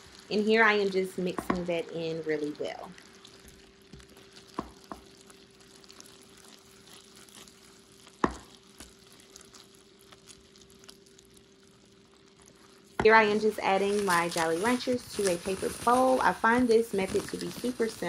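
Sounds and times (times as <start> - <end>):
faint steady hum: 0.0 - 18.0
syrup bubbling and sizzling: 0.0 - 18.0.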